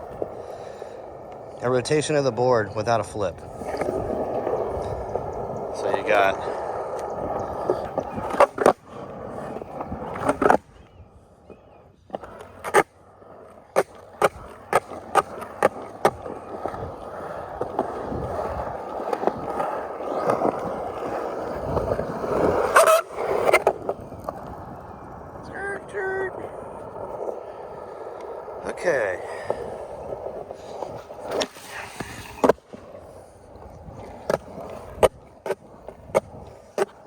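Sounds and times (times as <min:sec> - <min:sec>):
skateboard rolling on concrete: 0:00.0 - 0:37.0
skateboard wooden clacks: 0:03.4 - 0:25.4, 0:26.6 - 0:37.0.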